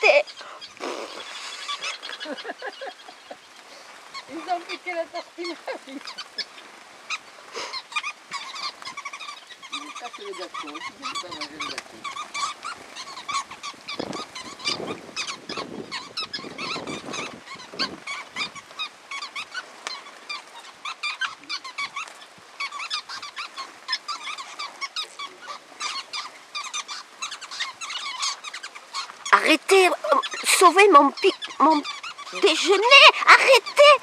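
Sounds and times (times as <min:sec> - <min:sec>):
small birds chattering: 0:00.0 - 0:34.0.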